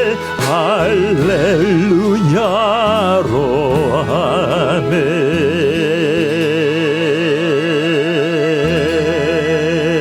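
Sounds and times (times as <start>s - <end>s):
gospel accompaniment: 0.0s - 10.0s
man singing long note: 0.0s - 10.0s.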